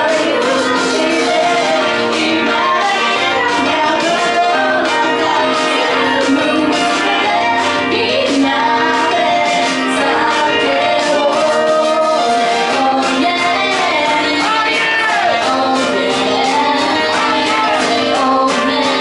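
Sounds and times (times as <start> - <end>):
live pop band accompaniment: 0.0 - 19.0
woman singing into microphone: 0.0 - 19.0.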